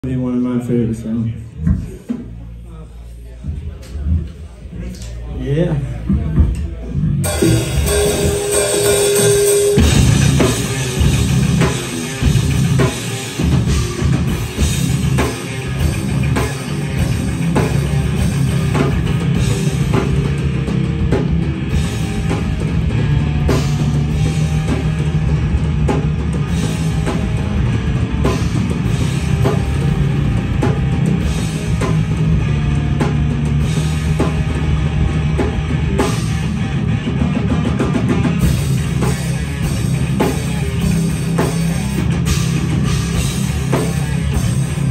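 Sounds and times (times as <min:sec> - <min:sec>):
heavy metal band playing: 0:05.5 - 0:44.9.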